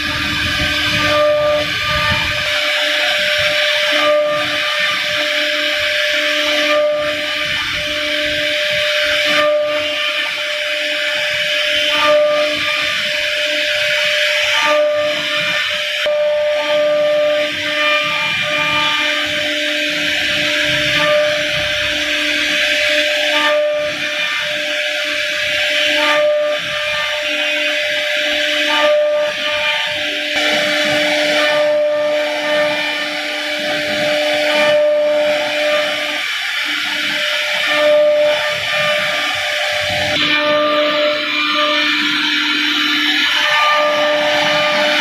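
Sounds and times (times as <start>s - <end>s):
router bit cutting wood hiss: 0.0s - 45.0s
router spindle whine: 0.0s - 45.0s.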